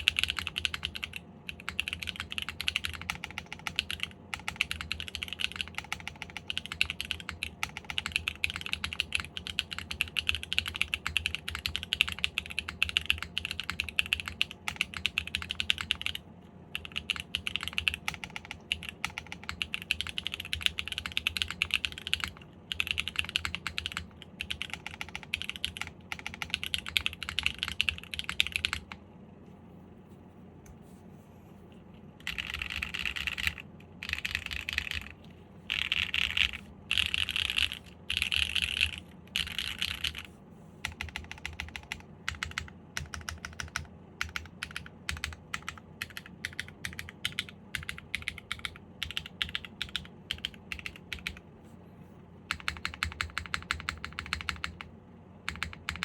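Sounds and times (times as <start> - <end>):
fast mechanical keyboard typing: 0.0 - 29.0, 32.2 - 51.4, 52.5 - 56.0.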